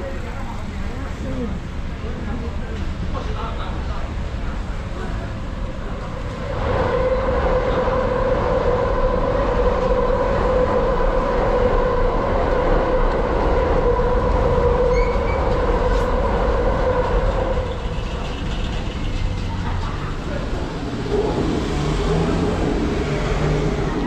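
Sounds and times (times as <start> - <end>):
train rumbling over overpass: 0.0 - 24.0.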